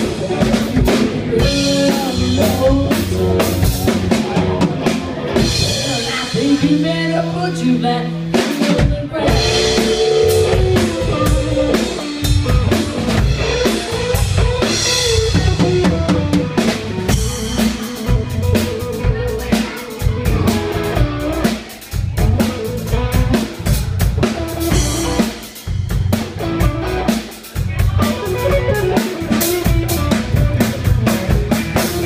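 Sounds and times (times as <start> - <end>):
drum kit beat: 0.0 - 32.0
electric bass: 0.0 - 32.0
electric guitar: 0.0 - 32.0.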